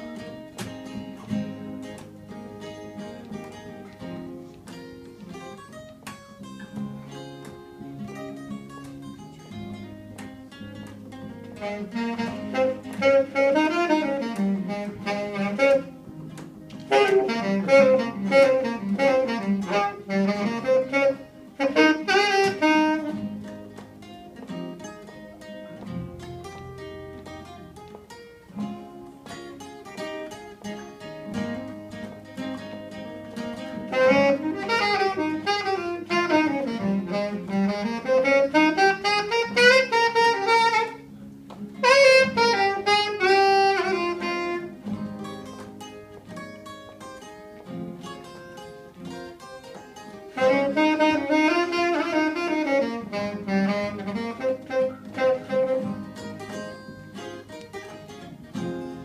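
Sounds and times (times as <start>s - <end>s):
saxophone solo: 0.0s - 27.6s, 31.4s - 47.0s, 49.1s - 59.0s
electric guitar: 0.0s - 59.0s
strummed acoustic guitars: 0.0s - 59.0s.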